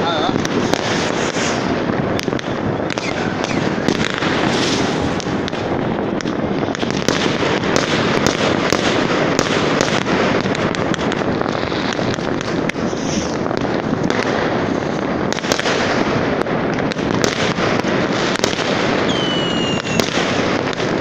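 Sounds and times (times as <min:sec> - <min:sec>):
fireworks and firecrackers crackling: 0:00.0 - 0:21.0.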